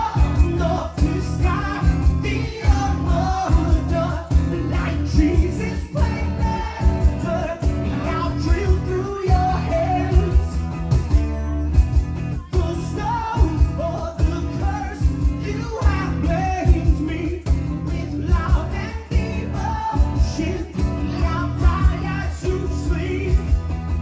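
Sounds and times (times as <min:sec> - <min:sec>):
person singing: 0:00.0 - 0:10.6, 0:12.3 - 0:23.6
steady percussion beat: 0:00.0 - 0:24.0
strummed acoustic guitars: 0:00.0 - 0:24.0.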